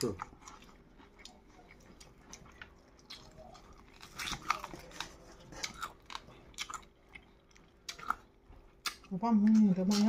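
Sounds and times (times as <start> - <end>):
man chewing food: 0.0 - 10.0.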